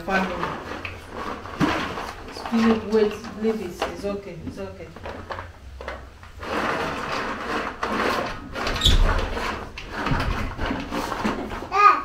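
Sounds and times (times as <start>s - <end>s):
beans rattling in a metal basin: 0.0s - 4.3s, 5.1s - 11.3s.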